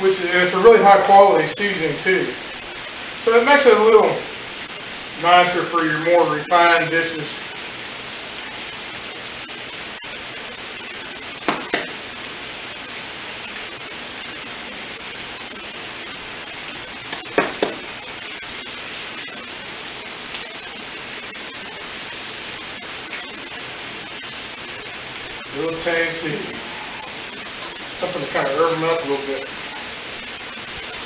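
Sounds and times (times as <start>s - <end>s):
food sizzling on griddle: 0.0s - 31.0s.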